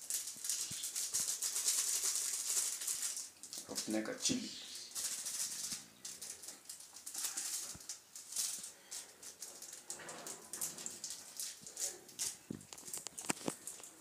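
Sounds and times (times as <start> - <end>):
plastic sachet rattling: 0.0 - 14.0.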